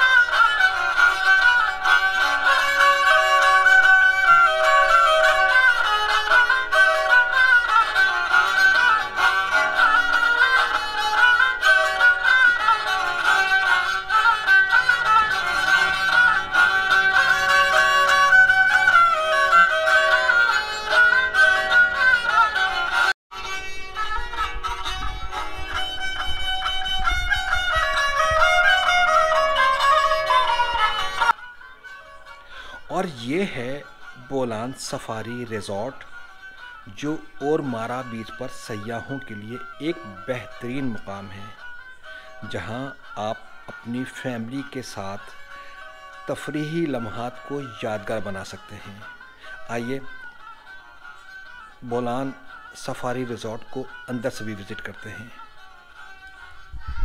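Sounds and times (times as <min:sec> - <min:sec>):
instrumental background music: 0:00.0 - 0:57.0.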